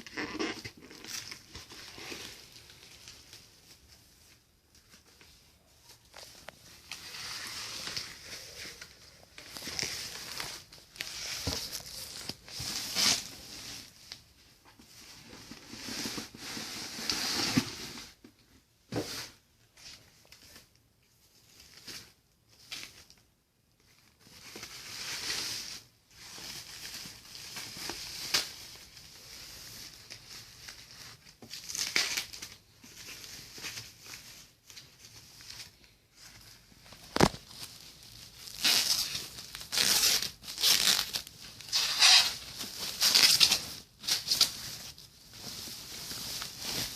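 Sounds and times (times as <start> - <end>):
packaging rustling and crinkling: 0.0 - 17.8, 23.8 - 46.9.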